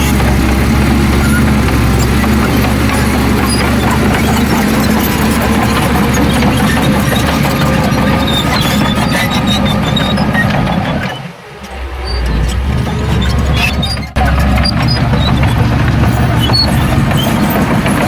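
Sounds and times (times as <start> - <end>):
diesel earthmoving machinery running: 0.0 - 18.0
metallic squeaks and clanks: 0.0 - 18.0.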